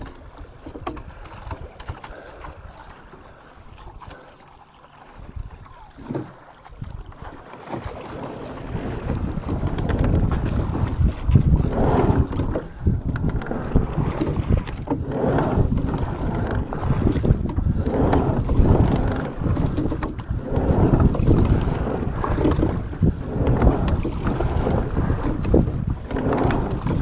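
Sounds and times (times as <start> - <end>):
wind buffeting microphone: 0.0 - 4.1, 5.2 - 27.0
water rushing and splashing: 0.0 - 27.0.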